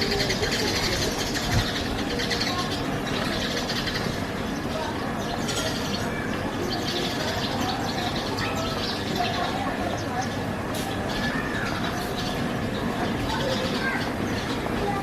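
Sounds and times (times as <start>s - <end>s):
many birds chirping: 0.0s - 15.0s.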